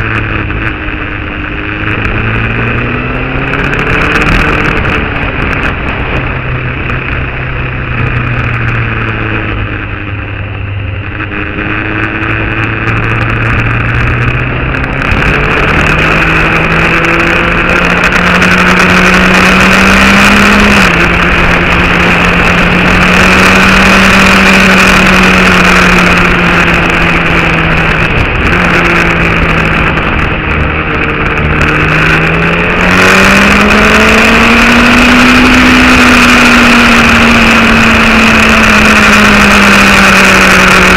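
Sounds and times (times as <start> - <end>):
motorcycle engine running: 0.0 - 40.9
steady rushing noise: 0.0 - 40.9.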